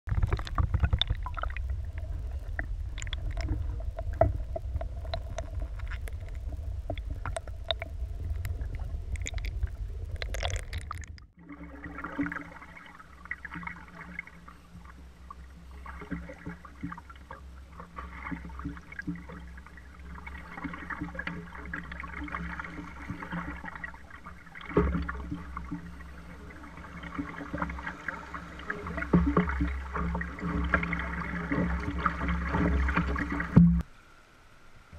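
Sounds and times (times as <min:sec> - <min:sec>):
paddle strokes: 0:00.1 - 0:33.9
underwater river rumble with clicks: 0:00.1 - 0:34.1
shallow river flowing: 0:00.1 - 0:34.9.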